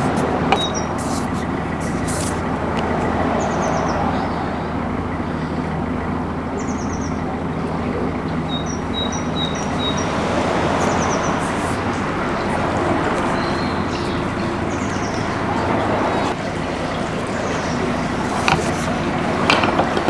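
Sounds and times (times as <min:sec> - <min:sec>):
diesel boat engine running: 0:00.0 - 0:20.0
small birds chirping: 0:00.0 - 0:20.0.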